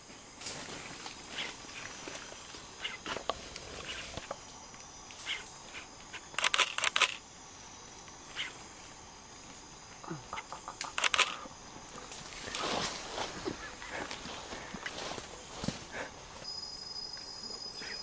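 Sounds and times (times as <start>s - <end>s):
insects buzzing high-pitched: 0.0s - 18.0s.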